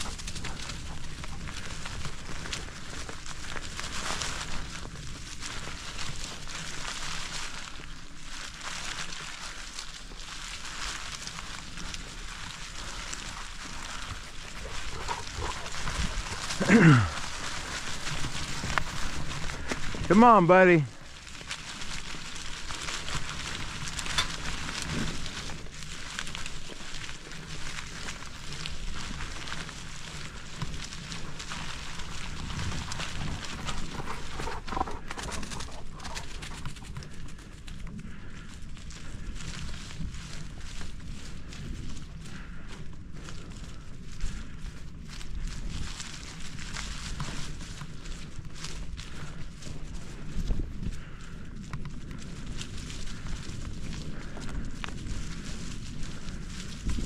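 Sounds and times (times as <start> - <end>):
bicycle tyres rolling on dirt: 0.0 - 57.0.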